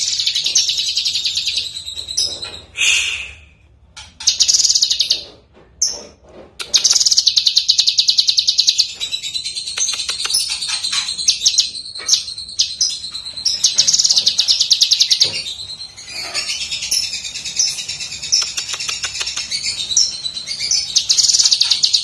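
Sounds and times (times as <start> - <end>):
bird singing with rattling trills: 0.0 - 2.8, 4.0 - 22.0.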